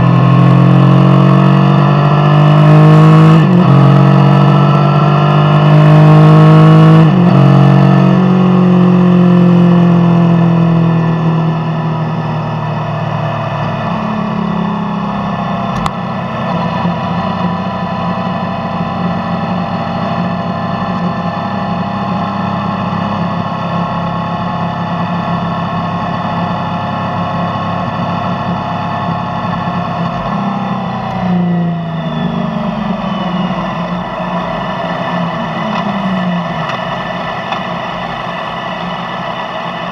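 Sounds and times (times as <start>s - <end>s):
motorcycle engine through exhaust: 0.0s - 39.9s.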